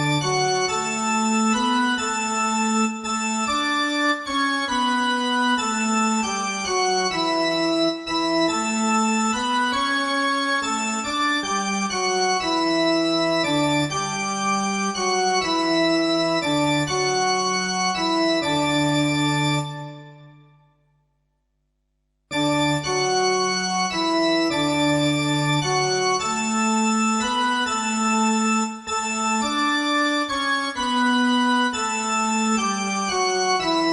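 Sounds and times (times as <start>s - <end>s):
organ-toned keyboard chords: 0.0s - 20.7s, 22.3s - 33.9s.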